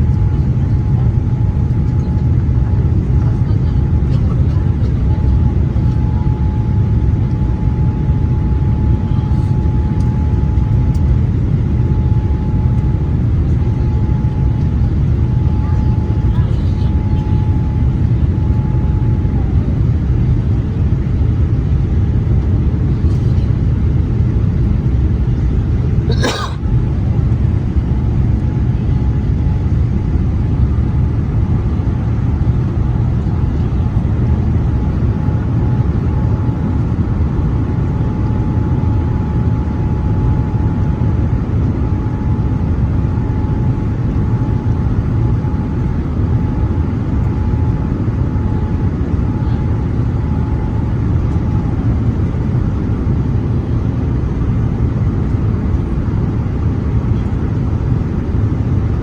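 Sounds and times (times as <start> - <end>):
airliner engines rumbling: 0.0 - 59.0
faint steady whine: 0.0 - 59.0.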